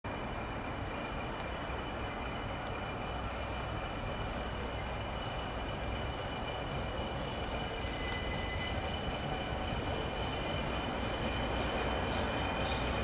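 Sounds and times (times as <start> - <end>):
diesel train engine rumble: 0.0 - 13.0
faint high whine: 0.1 - 13.0.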